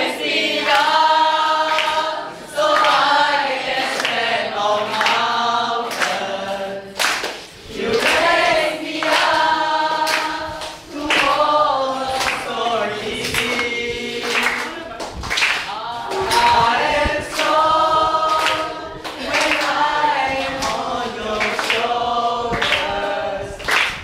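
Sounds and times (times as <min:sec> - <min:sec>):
group singing unaccompanied: 0:00.0 - 0:24.0.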